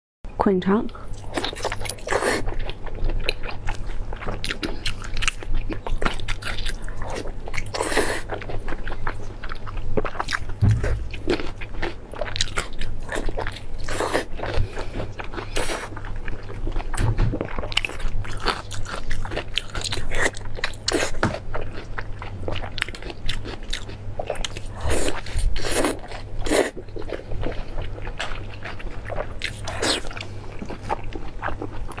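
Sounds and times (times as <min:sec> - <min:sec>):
biting and chewing: 0:01.0 - 0:32.0.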